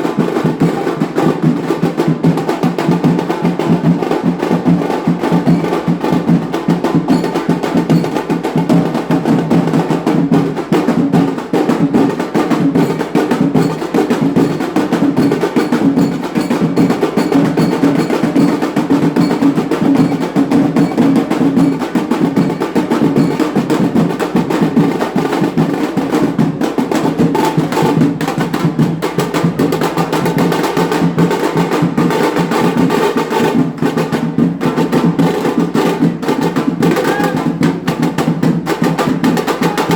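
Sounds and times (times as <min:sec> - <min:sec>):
fast dense drumming: 0:00.0 - 0:39.9.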